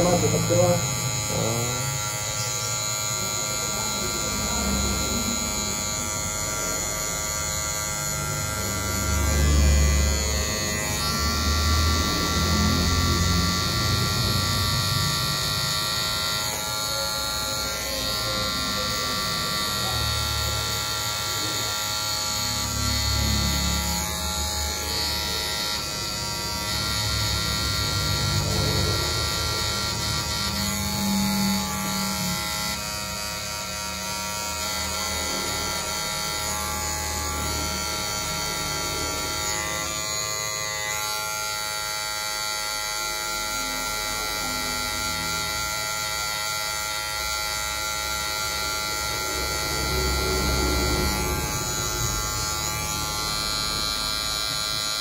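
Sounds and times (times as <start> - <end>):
electric hair clippers buzzing: 0.0 - 55.0.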